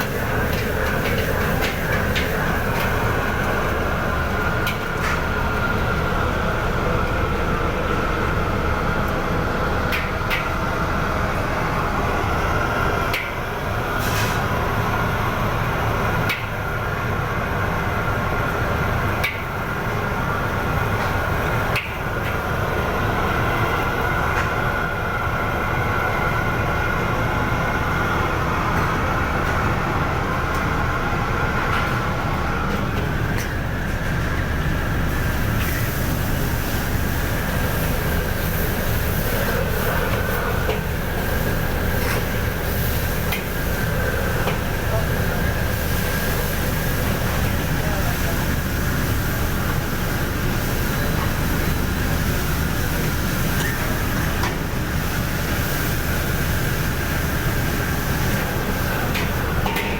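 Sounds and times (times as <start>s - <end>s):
wok burner and extractor roar: 0.0s - 59.9s.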